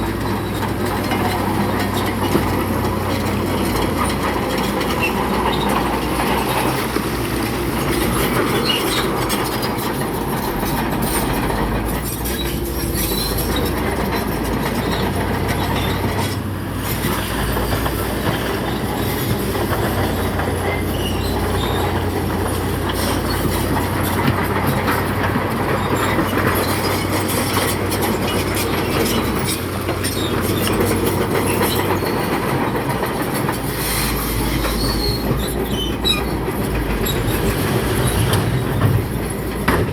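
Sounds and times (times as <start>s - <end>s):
diesel engine under load: 0.0s - 39.9s
steel tracks clanking and squealing: 0.0s - 39.9s.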